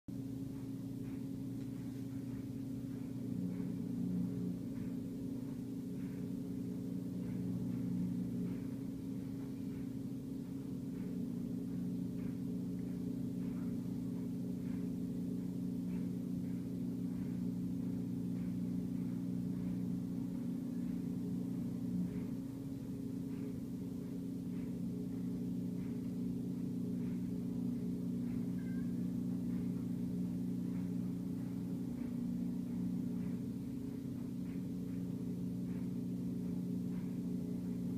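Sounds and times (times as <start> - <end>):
low machine hum: 0.1 - 37.9.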